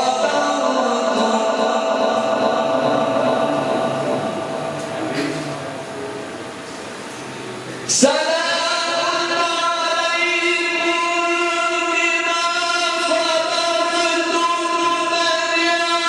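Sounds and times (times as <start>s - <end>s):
man reciting melodically: 0.0s - 6.0s, 7.9s - 16.0s
noisy hiss: 0.0s - 16.0s.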